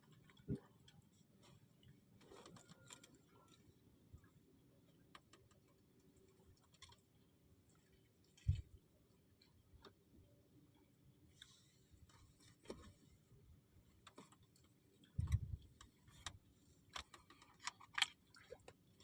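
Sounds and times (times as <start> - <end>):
faint small clicks and ticks: 0.0 - 13.1, 13.9 - 19.0.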